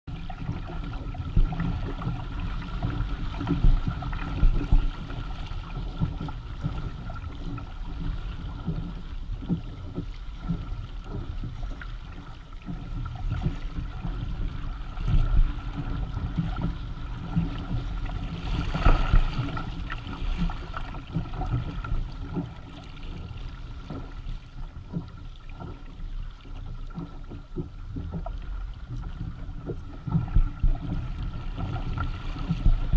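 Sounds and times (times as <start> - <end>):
low rumble: 0.1 - 32.9
small waves slapping: 0.1 - 32.9
water rushing along hull: 0.1 - 32.9.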